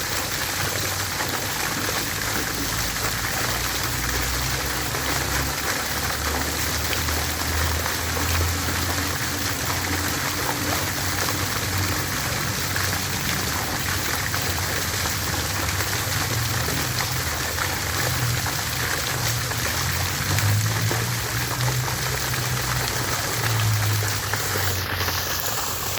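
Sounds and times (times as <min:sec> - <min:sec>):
water fountain splashing: 0:00.0 - 0:25.9.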